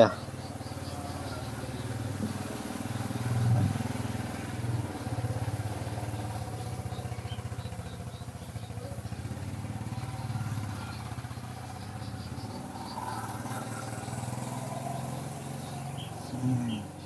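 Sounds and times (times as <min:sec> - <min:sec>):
engine pulsing hum: 0:00.0 - 0:17.0.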